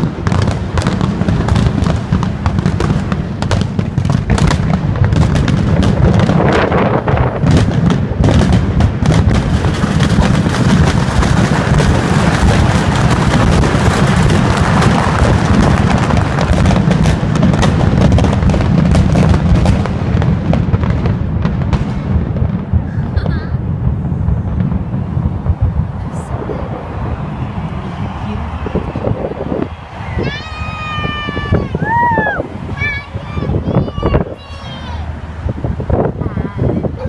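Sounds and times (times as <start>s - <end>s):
continuous low rumble: 0.0s - 37.0s
fireworks bangs and crackles: 0.0s - 37.0s.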